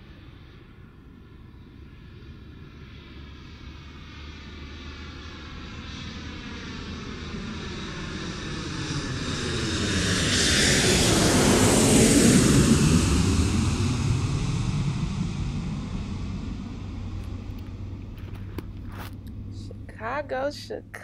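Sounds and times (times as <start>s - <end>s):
jet aircraft passing over: 0.0s - 21.0s.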